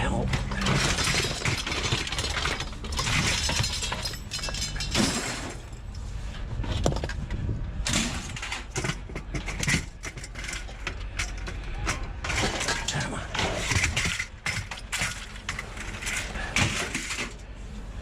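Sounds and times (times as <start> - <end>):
scrap metal clanking and scraping: 0.0 - 18.0.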